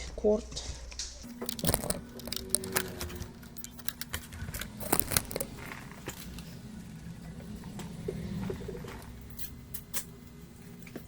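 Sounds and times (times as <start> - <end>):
low steady hum: 0.6 - 11.0.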